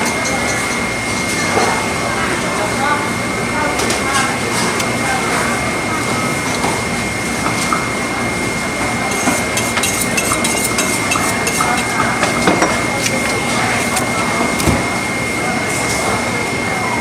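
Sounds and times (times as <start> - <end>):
market hubbub: 0.0 - 17.0.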